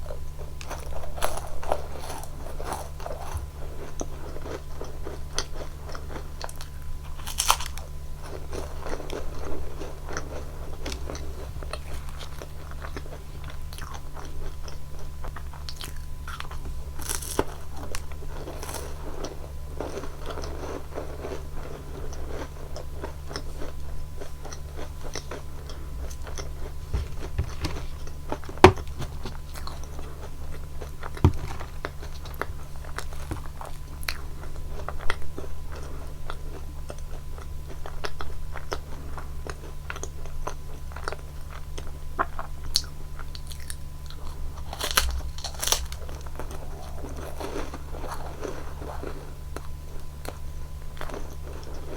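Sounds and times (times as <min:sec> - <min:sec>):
crunchy cookies being chewed: 0:00.0 - 0:51.9.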